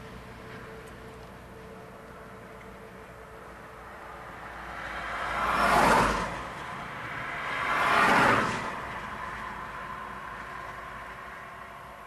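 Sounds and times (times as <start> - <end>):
vehicles passing: 0.0 - 12.0.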